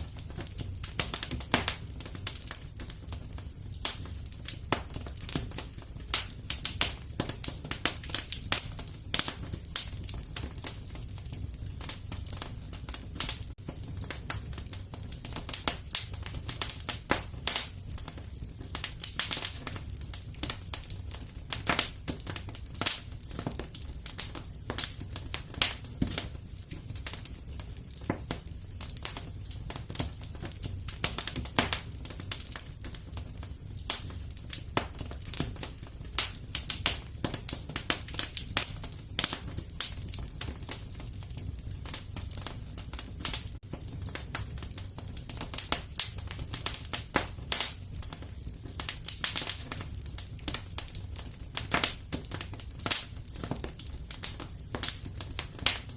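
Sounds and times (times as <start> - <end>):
burning wood popping and snapping: 0.0 - 55.9
low fire rumble: 0.0 - 55.9.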